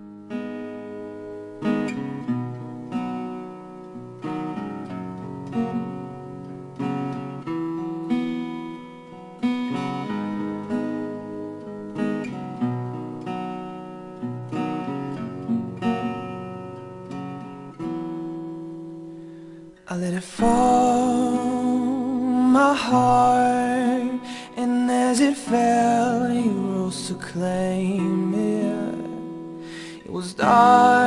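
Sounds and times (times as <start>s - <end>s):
acoustic guitar strummed chords: 0.0s - 31.0s.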